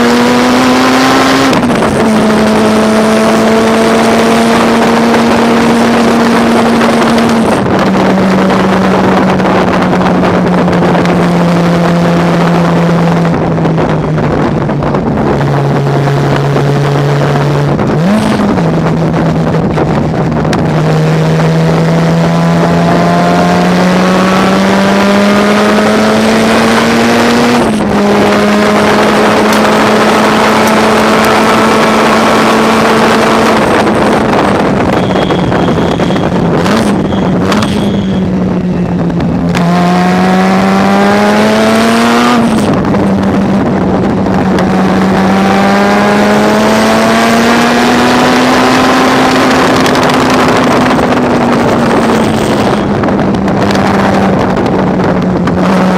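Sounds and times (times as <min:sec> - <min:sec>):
race engine running hard: 0:00.0 - 0:55.9.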